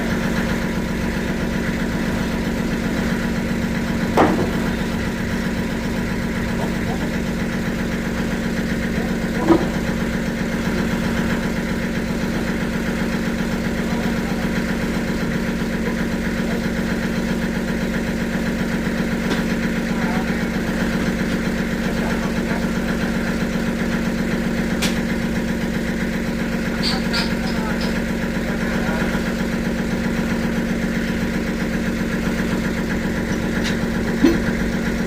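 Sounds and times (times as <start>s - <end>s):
sawmill machinery humming: 0.0s - 35.0s.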